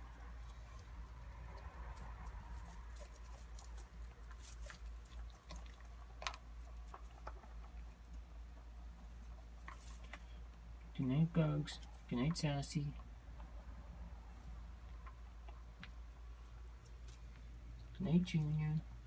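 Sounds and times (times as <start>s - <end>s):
rabbits chewing: 0.0s - 19.0s
steady low hum: 0.0s - 19.0s.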